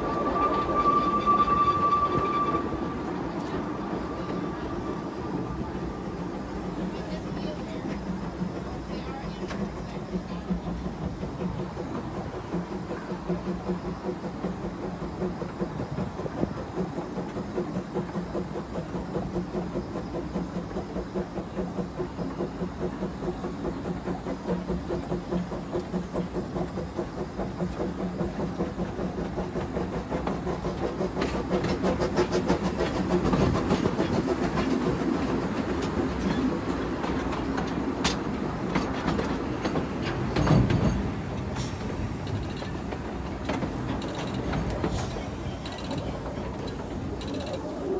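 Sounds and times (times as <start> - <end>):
small steam locomotive beat: 0.0 - 47.9
wheels clicking over rails: 0.1 - 47.9.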